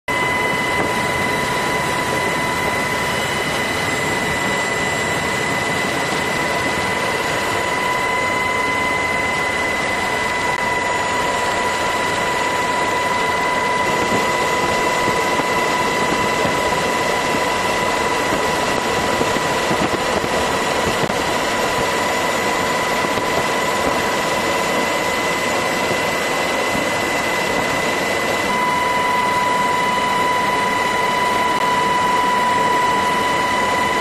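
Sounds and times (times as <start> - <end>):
helicopter rotor and engine noise: 0.1 - 34.0
high whine: 0.1 - 34.0.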